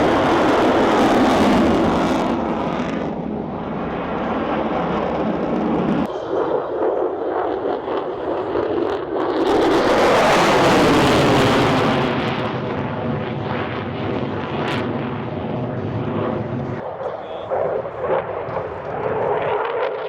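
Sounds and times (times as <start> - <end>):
jet flying past: 0.0 - 20.0.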